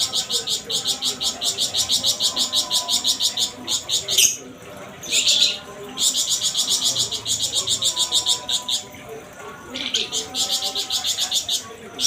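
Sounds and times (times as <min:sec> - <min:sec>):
songbird rapid chirping: 0:00.0 - 0:12.0.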